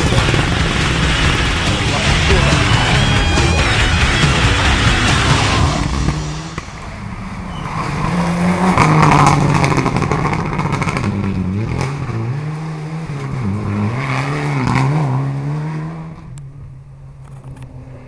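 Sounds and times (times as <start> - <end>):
rally car engine revving past: 0.0 - 16.3.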